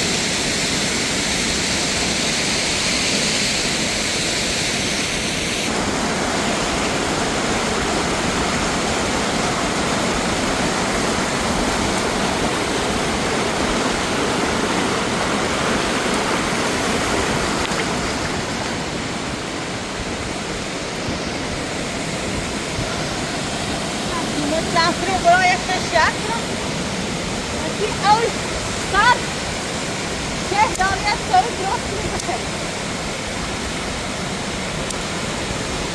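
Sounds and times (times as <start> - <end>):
fast-flowing mountain water: 0.0 - 35.9.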